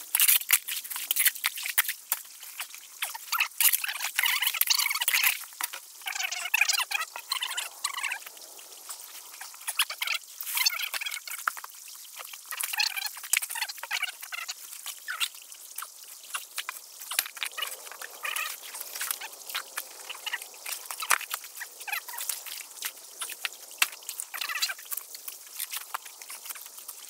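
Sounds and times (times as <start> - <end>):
frogs croaking: 2.4 - 27.0.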